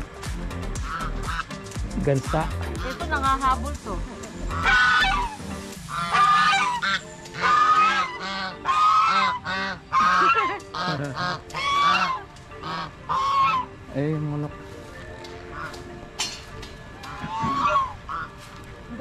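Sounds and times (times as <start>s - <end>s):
geese honking: 0.7s - 1.6s, 2.6s - 19.0s.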